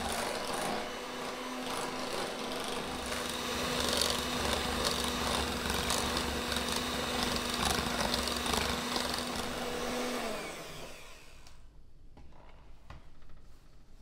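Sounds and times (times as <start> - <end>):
electric hand mixer running: 0.0 - 11.6.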